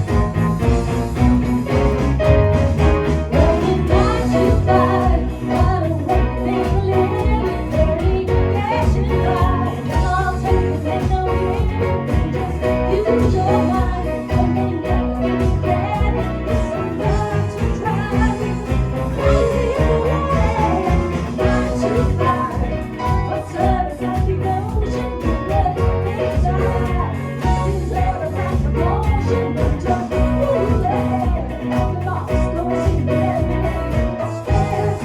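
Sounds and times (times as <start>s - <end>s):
drum beat: 0.0s - 8.5s, 9.4s - 31.5s
bass: 0.0s - 35.0s
live band playing: 0.0s - 35.0s
person singing: 0.0s - 35.0s.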